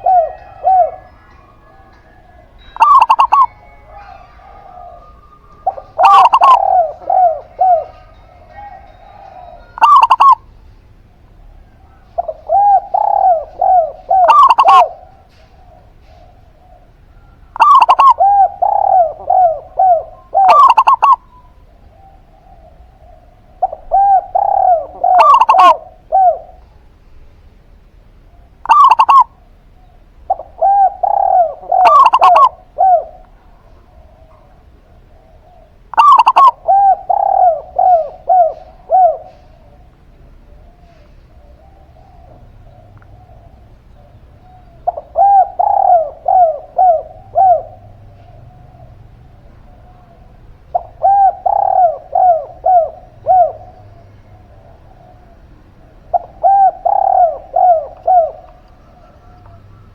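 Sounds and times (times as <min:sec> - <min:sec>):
doves cooing: 0:00.0 - 0:59.9.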